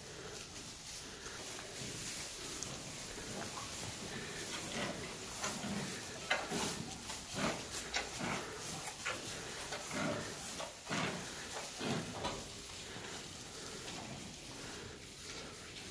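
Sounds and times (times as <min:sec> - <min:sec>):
straw rustling: 0:00.0 - 0:15.9.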